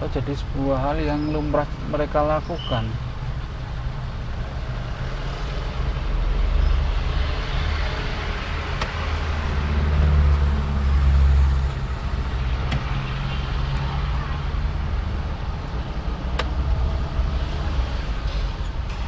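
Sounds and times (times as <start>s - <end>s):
car engine drone: 0.0s - 19.0s
road noise: 0.0s - 19.0s.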